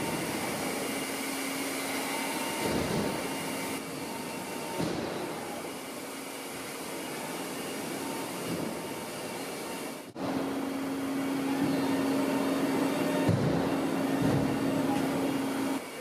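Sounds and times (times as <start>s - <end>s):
milling machine whirring: 0.0s - 16.0s
steady hum: 0.0s - 16.0s.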